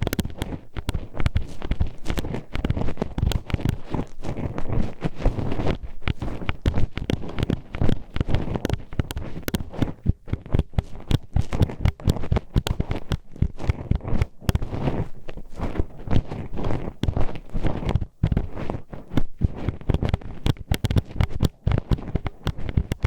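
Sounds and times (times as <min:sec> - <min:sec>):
hairpin scraping microphone: 0:00.0 - 0:23.0.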